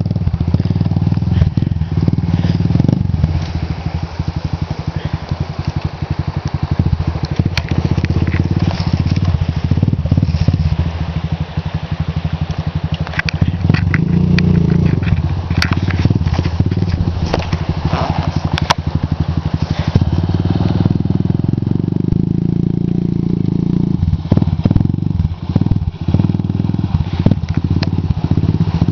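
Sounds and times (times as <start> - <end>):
quad engine revving: 0.0 - 11.2, 13.1 - 28.9.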